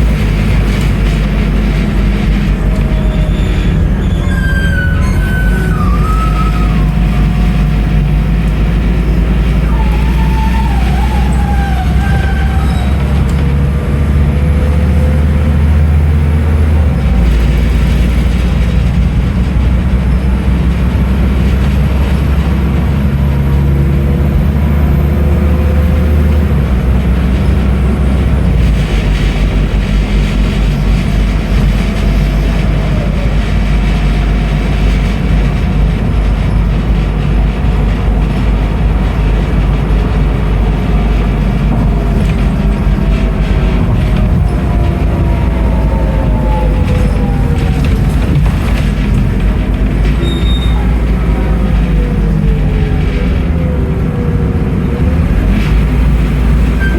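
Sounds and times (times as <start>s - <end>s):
bus diesel engine drone: 0.0s - 56.9s.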